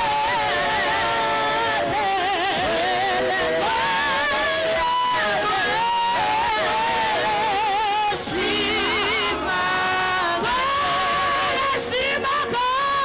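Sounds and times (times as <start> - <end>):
voices singing with vibrato: 0.0 - 13.0
worship music: 0.0 - 13.0.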